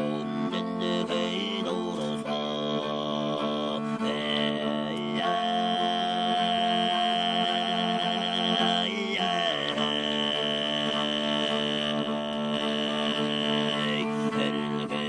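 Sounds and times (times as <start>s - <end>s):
chant-like vocal: 0.0s - 15.0s.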